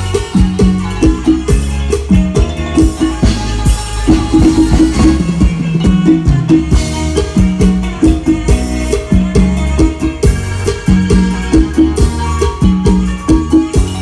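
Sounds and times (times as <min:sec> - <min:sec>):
bass line: 0:00.0 - 0:14.0
drum kit beat: 0:00.0 - 0:14.0
procession band music over loudspeakers: 0:00.0 - 0:14.0.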